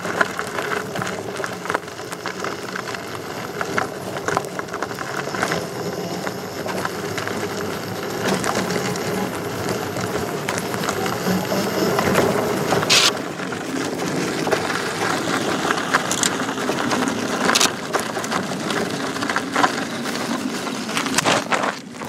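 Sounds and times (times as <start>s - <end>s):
stones clicking: 0.0s - 22.0s
tyre crunching on gravel: 0.0s - 22.0s.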